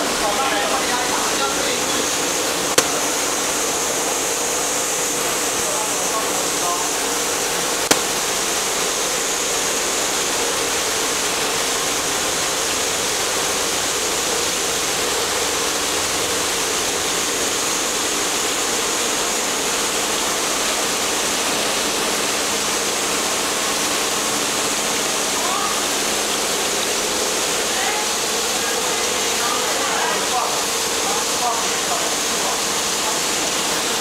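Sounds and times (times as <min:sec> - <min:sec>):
faint machinery hum: 0:00.0 - 0:34.0
rushing water-like noise: 0:00.0 - 0:34.0.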